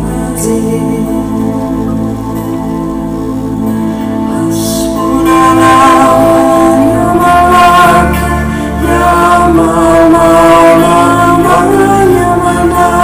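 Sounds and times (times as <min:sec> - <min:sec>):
acoustic guitar: 0:00.0 - 0:13.0
low drone: 0:00.0 - 0:13.0.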